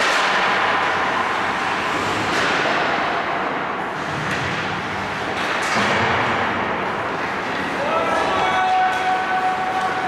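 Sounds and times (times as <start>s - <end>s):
arena noise: 0.0s - 10.0s
hockey stick clacks and scrapes: 0.0s - 10.0s
skates on ice: 0.0s - 10.0s.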